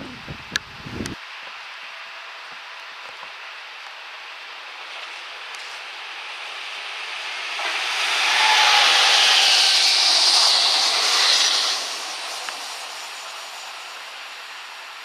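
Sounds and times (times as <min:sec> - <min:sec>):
train passing close: 0:01.6 - 0:15.0.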